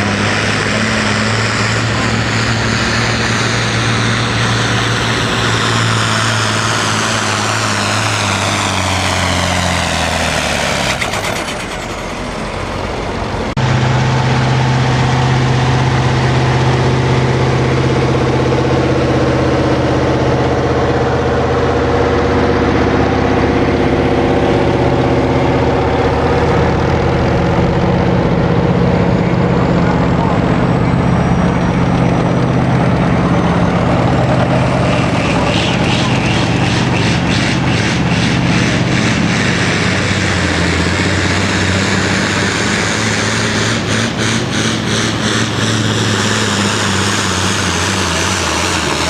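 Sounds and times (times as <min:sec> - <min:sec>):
heavy engine idling: 0:00.0 - 0:49.0
tractor engine winding down: 0:00.0 - 0:49.0.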